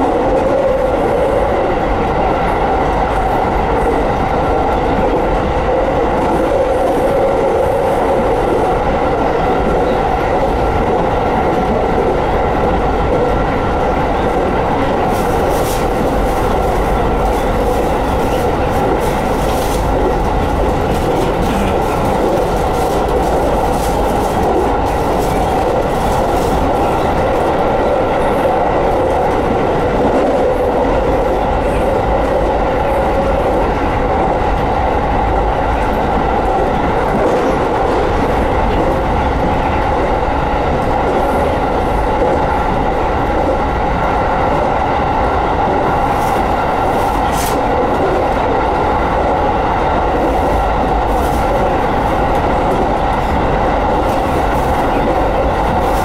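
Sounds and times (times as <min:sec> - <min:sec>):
train wheels rumbling on rails: 0:00.0 - 0:56.0
train whine: 0:00.0 - 0:56.0.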